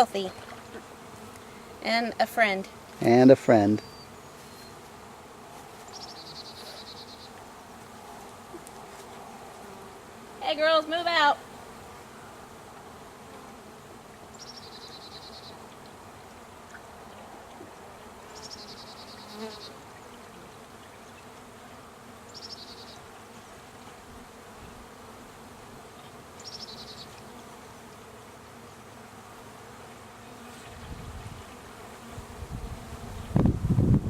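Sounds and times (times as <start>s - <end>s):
honeybees buzzing: 0.0s - 34.0s.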